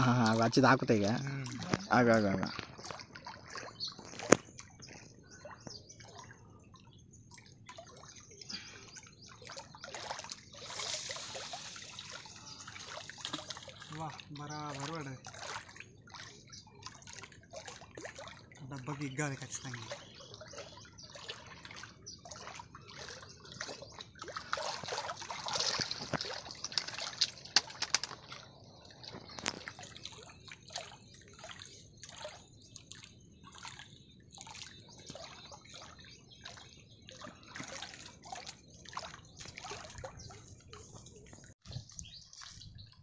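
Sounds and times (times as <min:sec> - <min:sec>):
water sloshing and splashing: 0:00.0 - 0:43.0.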